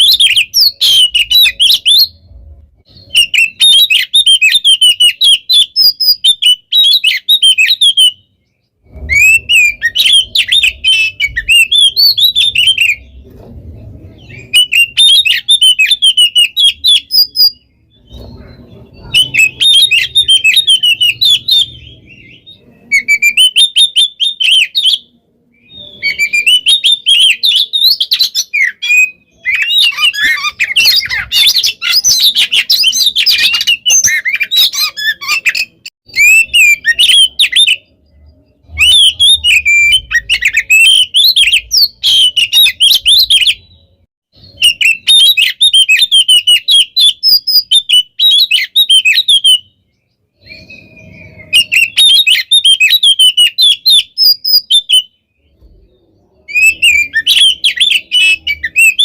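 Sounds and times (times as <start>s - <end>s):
bird singing whistles and trills: 0.0s - 59.0s.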